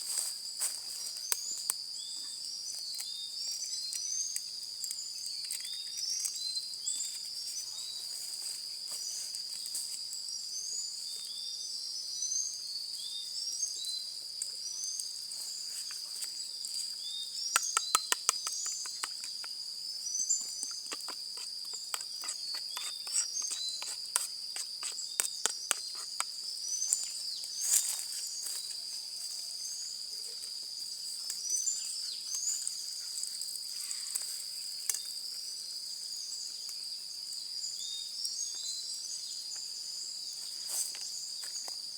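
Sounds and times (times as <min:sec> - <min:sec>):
crickets and insects chorus: 0:00.0 - 0:41.9.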